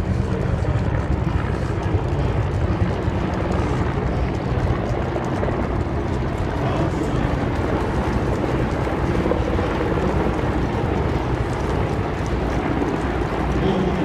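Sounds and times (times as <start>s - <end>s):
helicopter rotor drone: 0.0s - 14.0s.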